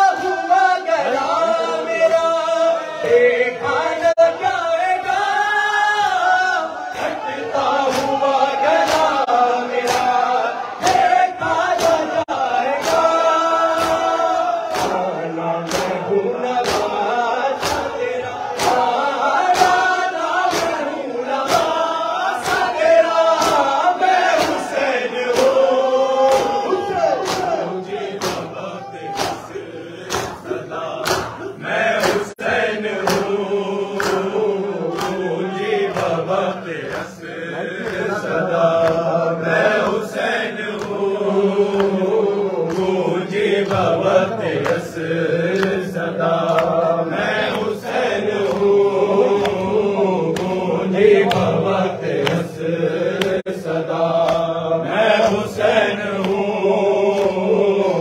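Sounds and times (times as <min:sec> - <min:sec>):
crowd of men singing refrain: 0:00.0 - 0:58.0
men chanting a lament: 0:00.0 - 0:58.0.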